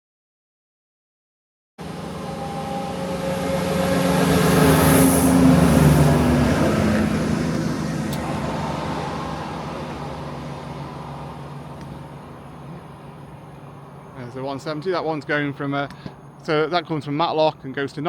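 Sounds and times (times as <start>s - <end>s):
diesel train passing: 1.8s - 17.8s.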